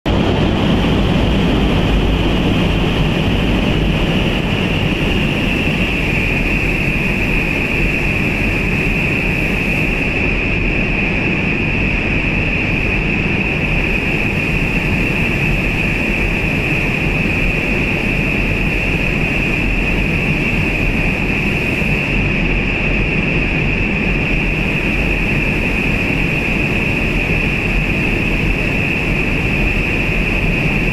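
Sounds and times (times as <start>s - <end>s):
large fans rushing air: 0.0s - 30.9s.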